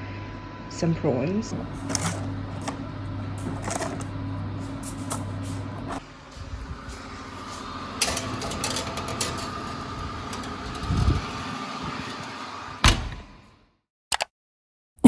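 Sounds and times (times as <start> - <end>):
fan running with faint whine: 0.0 - 13.5.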